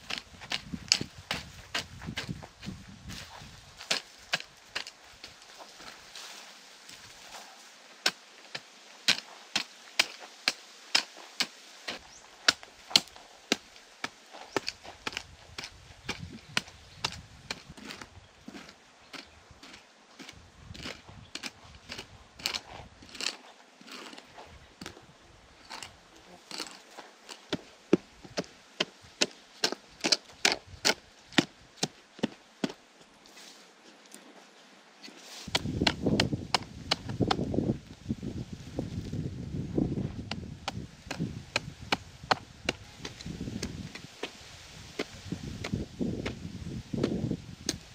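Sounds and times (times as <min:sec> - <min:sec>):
digging tool chopping hard earth: 0:00.0 - 0:05.4, 0:08.0 - 0:25.0, 0:26.5 - 0:32.8, 0:35.5 - 0:37.5, 0:40.2 - 0:47.9.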